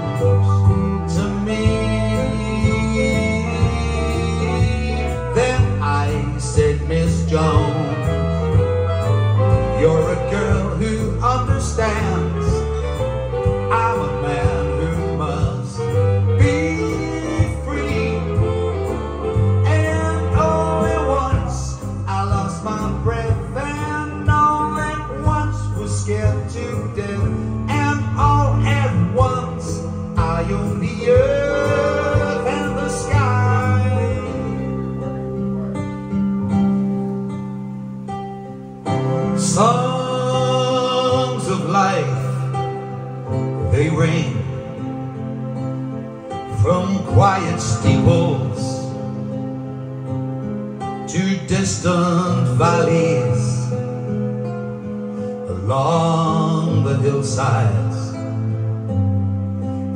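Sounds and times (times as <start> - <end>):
man singing into a microphone: 0.0 - 35.4, 39.1 - 44.9, 46.5 - 49.3, 51.0 - 54.2, 55.3 - 58.6
backing track with guitar: 0.0 - 59.9
steady bass notes: 0.0 - 59.9.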